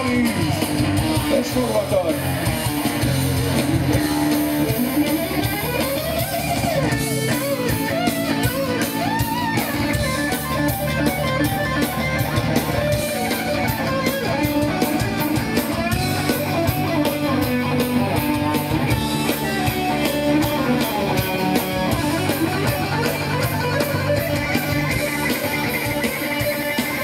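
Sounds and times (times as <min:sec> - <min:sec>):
drums: 0:00.0 - 0:27.0
electric guitar: 0:00.0 - 0:27.0
heavy metal band playing: 0:00.0 - 0:27.0.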